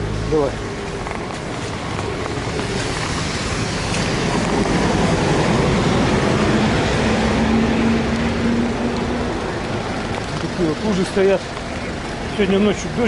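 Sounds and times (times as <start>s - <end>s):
minibus engine humming: 0.0s - 13.0s
street traffic: 0.0s - 13.0s.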